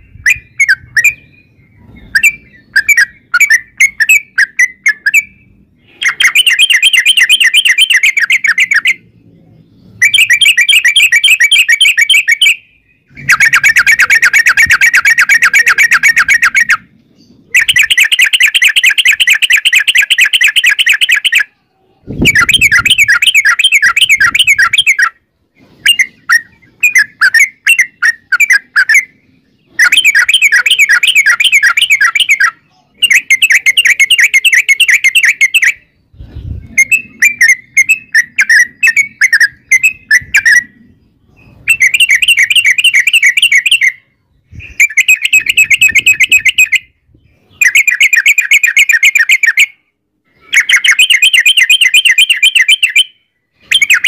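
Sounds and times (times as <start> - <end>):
bulbul song: 0.0 - 9.2, 9.8 - 54.0.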